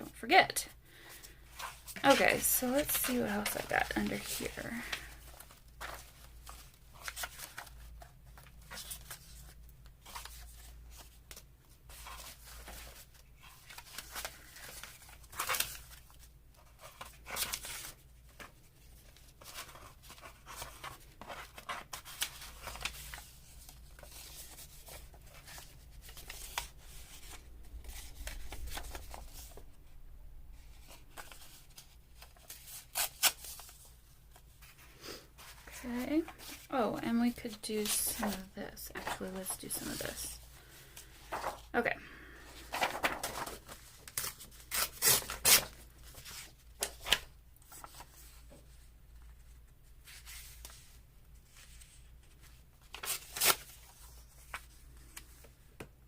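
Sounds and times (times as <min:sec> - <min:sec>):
paper sheets rustling: 0:01.0 - 0:29.7, 0:30.6 - 0:55.6.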